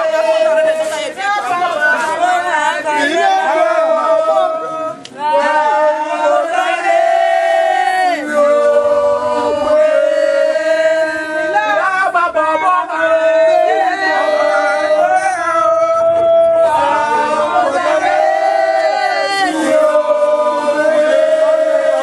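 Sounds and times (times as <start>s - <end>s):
group of people chanting: 0.0s - 22.0s.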